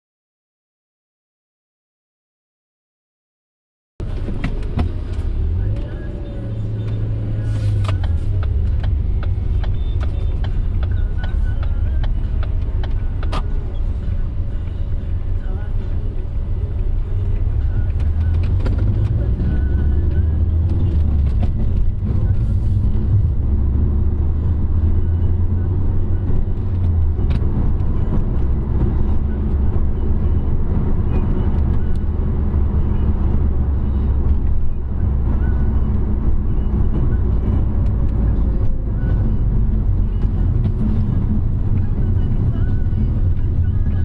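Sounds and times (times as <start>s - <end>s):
car engine and tyre rumble: 4.0s - 44.0s.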